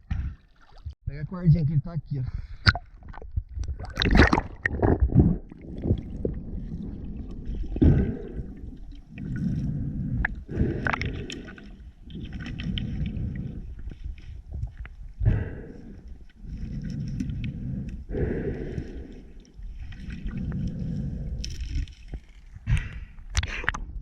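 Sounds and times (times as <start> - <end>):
water sloshing and splashing: 0.0 - 1.0, 2.6 - 22.7.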